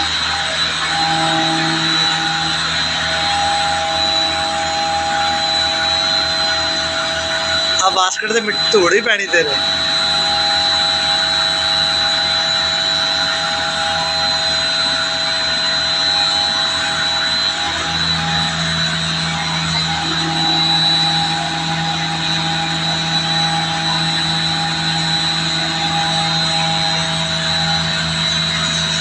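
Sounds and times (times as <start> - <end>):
diesel engine running with whine: 0.0 - 29.0
low hum: 0.0 - 29.0.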